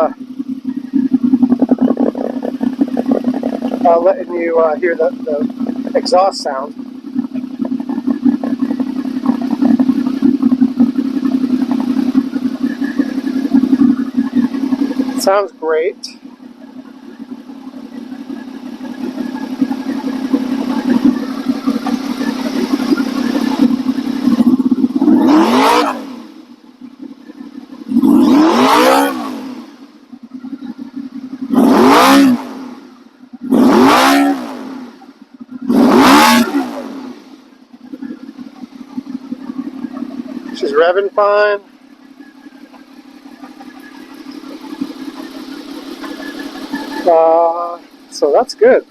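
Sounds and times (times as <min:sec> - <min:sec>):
motorcycle engine idling and revving: 0:00.0 - 0:48.9.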